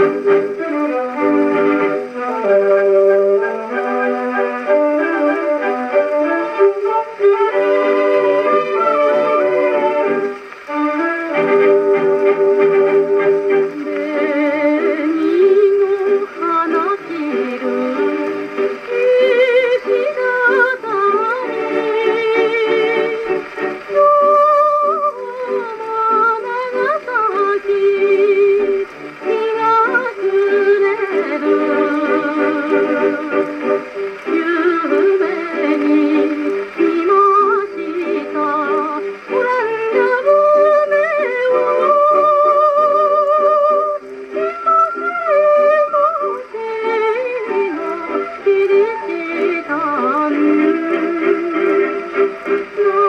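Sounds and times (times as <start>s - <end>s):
instrumental accompaniment: 0.0s - 53.0s
woman singing with vibrato: 0.0s - 53.0s.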